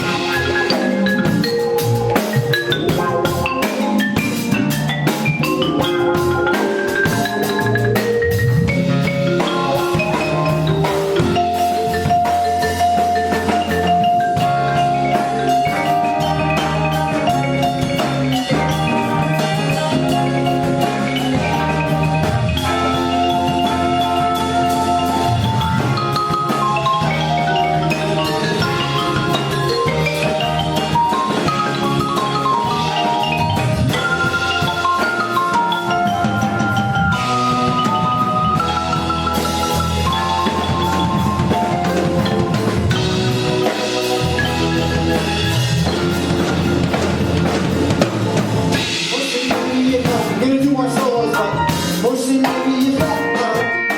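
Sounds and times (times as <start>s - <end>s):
live band music: 0.0s - 53.9s.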